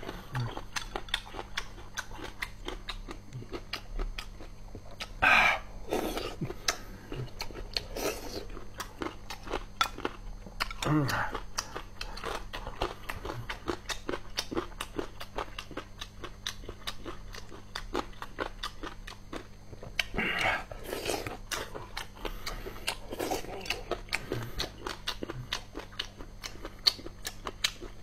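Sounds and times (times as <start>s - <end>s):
crisp crunchy chewing: 0.0s - 5.2s, 5.8s - 28.0s.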